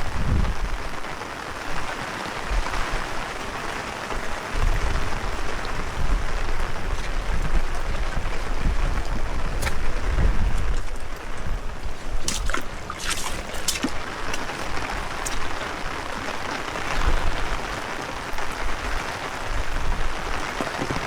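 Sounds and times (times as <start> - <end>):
heavy rain: 0.0 - 21.0
wind buffeting microphone: 0.0 - 21.0.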